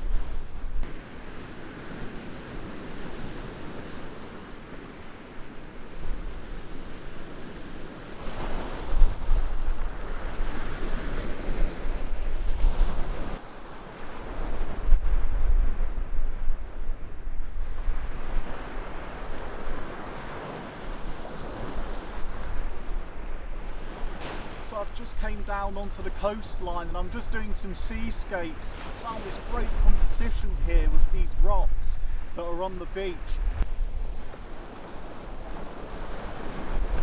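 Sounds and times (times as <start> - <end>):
wind buffeting microphone: 0.0 - 4.5, 5.8 - 13.4, 14.0 - 37.0
sea waves washing onto beach: 0.0 - 37.0.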